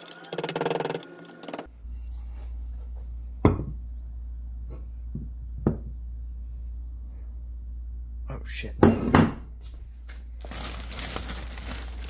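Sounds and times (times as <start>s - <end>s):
steady low hum: 1.6s - 12.0s.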